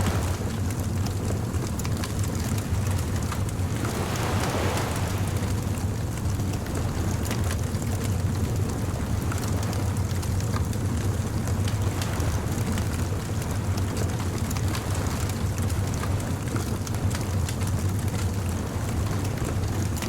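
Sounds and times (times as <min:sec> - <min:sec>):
ocean surf: 0:00.0 - 0:20.0.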